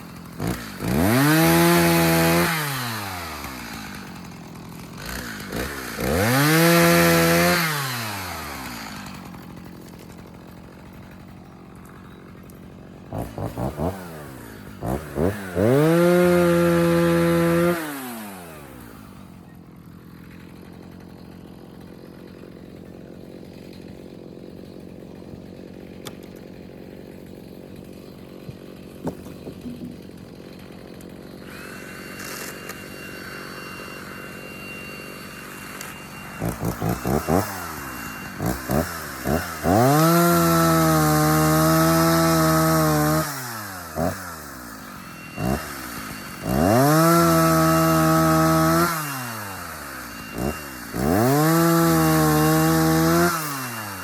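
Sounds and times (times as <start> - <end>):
chainsaw engine revving and idling: 0.0 - 54.0.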